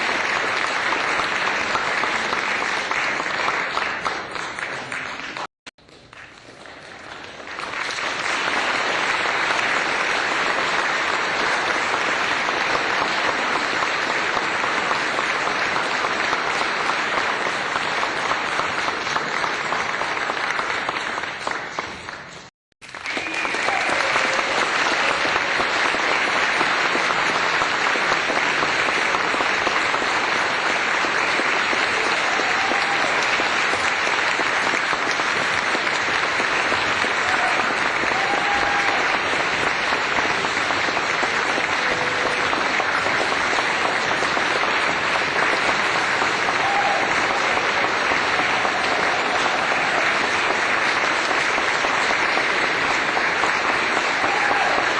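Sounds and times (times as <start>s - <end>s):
hands clapping applause: 0.0s - 54.9s.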